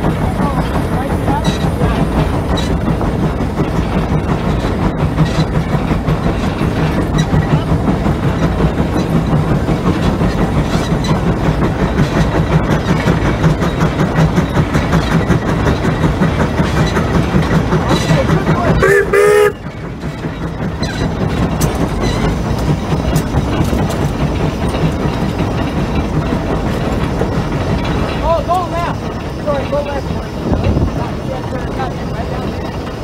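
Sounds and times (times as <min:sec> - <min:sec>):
plow clattering rhythmically: 0:00.0 - 0:33.0.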